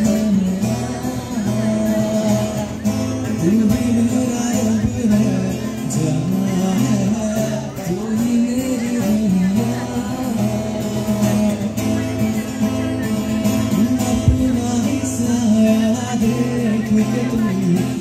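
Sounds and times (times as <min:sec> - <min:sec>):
acoustic guitar: 0:00.0 - 0:18.0
man singing slow song: 0:00.0 - 0:18.0.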